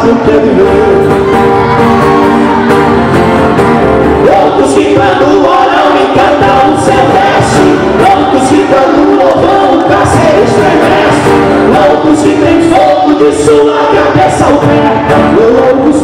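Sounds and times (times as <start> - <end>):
man singing: 0.0 - 1.3, 4.2 - 16.0
strummed acoustic guitar: 0.0 - 16.0.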